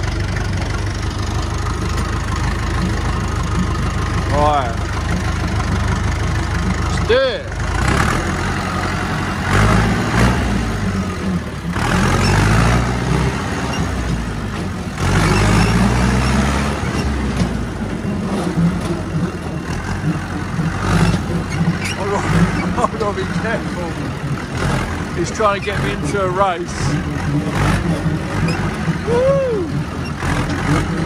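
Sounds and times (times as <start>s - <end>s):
tractor diesel engine revving: 0.0s - 31.0s.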